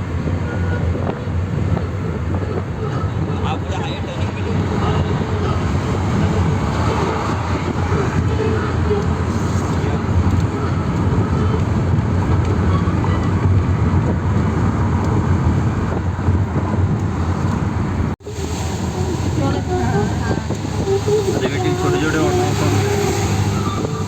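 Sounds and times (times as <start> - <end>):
vehicle road and engine rumble: 0.0 - 24.0.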